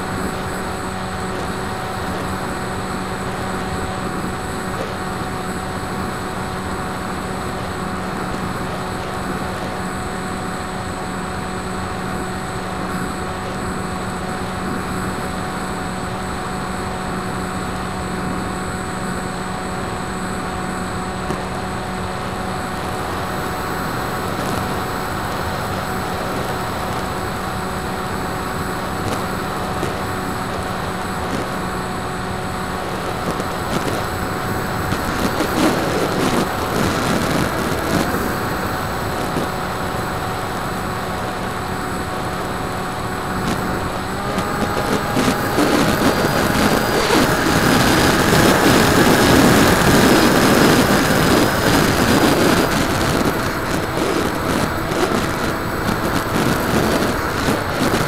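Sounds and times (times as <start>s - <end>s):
electric motor and propeller: 0.0s - 58.0s.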